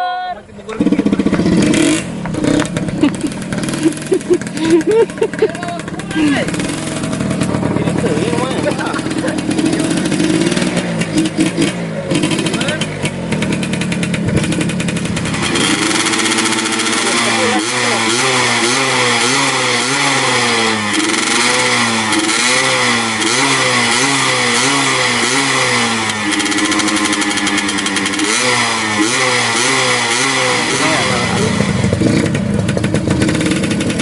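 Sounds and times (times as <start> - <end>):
motorcycle engine revving: 0.4 - 34.0.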